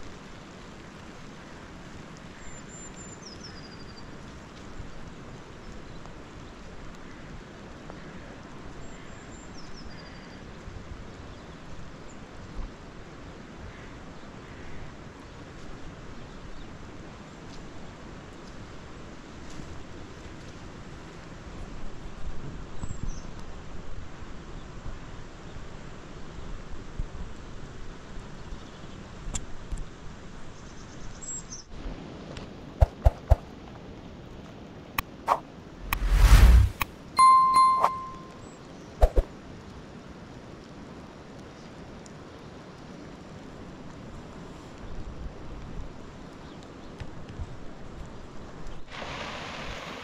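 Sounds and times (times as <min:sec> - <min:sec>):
wind: 0:00.0 - 0:50.0.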